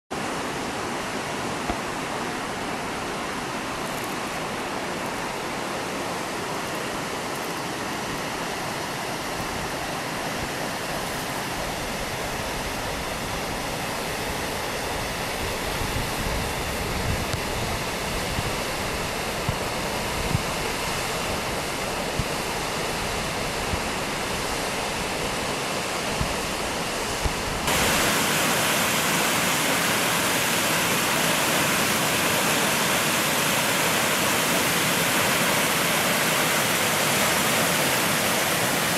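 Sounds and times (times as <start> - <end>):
river rapids rushing: 0.2 - 38.9.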